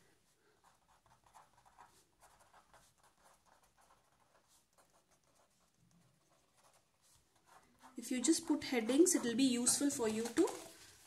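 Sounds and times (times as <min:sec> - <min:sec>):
marker pen scratching on paper: 0:00.4 - 0:10.7.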